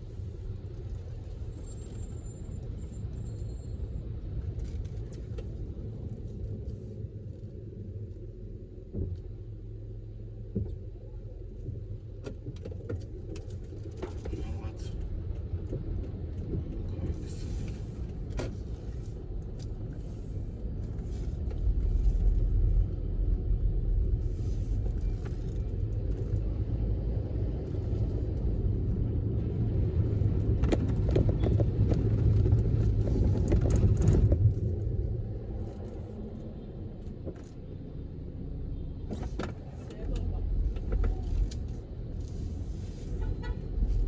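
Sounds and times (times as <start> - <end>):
car driving rumble: 0.0 - 44.0.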